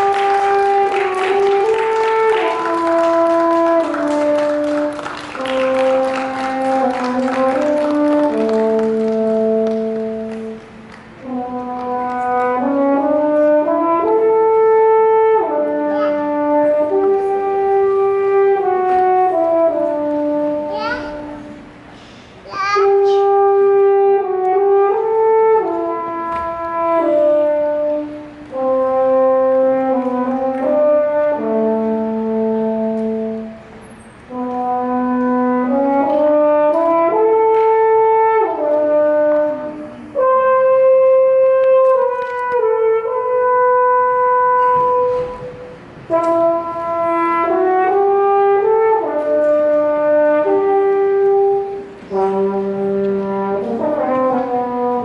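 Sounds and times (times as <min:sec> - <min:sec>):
french horn melody: 0:00.0 - 0:21.9, 0:22.9 - 0:55.0.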